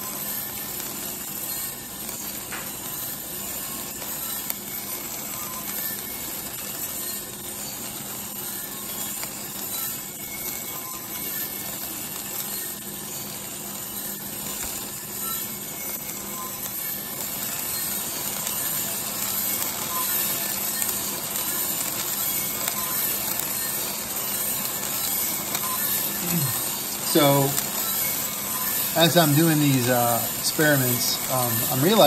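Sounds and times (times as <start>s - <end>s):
coffee beans tumbling in roaster: 0.0s - 32.0s.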